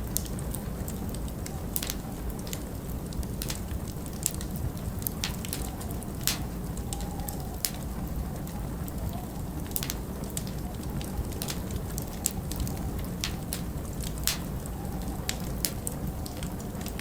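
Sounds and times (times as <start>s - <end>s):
log fire crackling and popping: 0.0s - 17.0s
low wind rumble: 0.0s - 17.0s.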